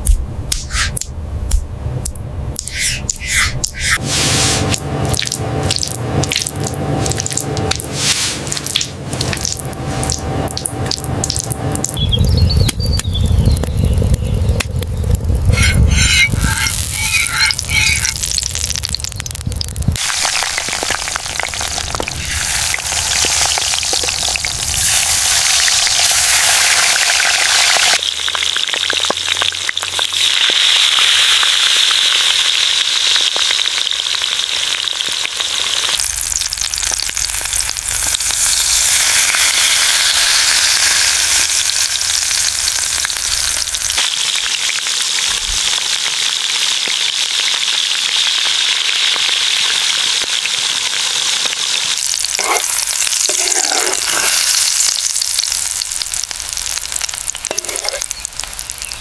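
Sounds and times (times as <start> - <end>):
food sizzling in a pan: 2.7 - 10.2, 15.6 - 19.4, 20.0 - 59.0.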